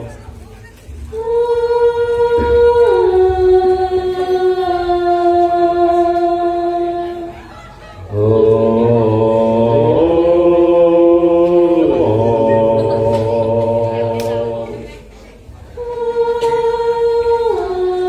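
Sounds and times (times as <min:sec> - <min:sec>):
group of voices singing: 0:01.1 - 0:18.0.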